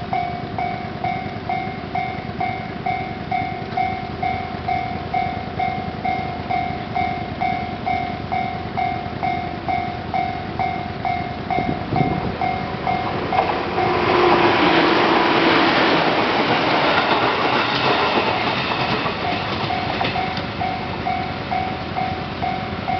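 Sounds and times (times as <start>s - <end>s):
level crossing warning bell: 0.0s - 22.9s
train passing: 0.0s - 22.9s.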